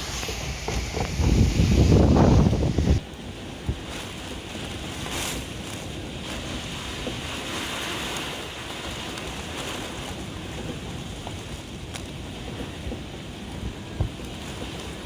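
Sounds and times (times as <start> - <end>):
rushing wind and water: 0.0 - 15.0.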